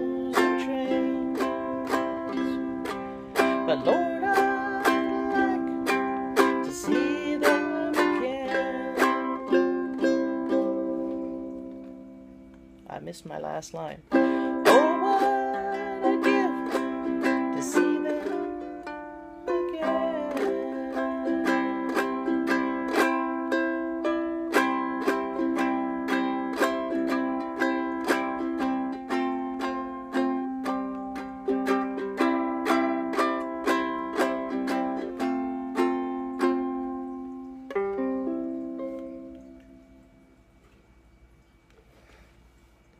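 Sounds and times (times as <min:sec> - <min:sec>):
ukulele strumming: 0:00.0 - 0:41.0.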